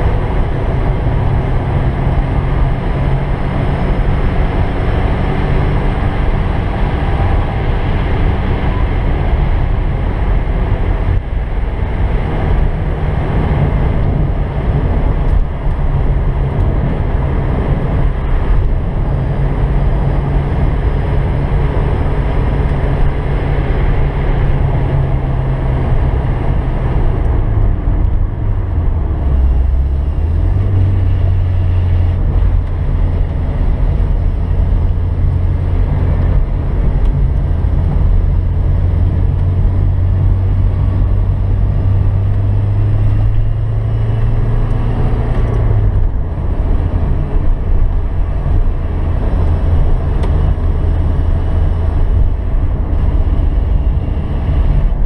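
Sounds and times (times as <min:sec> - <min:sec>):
car engine at high revs: 0:00.0 - 0:55.0
wind and road noise: 0:00.0 - 0:55.0.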